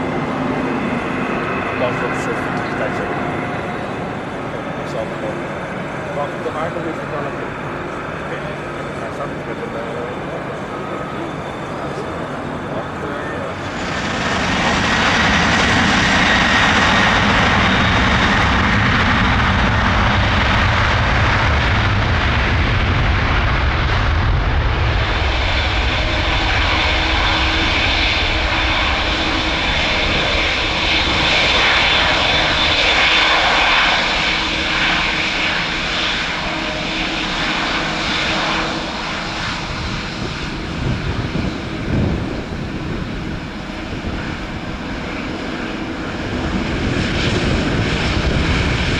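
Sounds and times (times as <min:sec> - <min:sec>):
jet engines whining: 0:00.0 - 0:48.9.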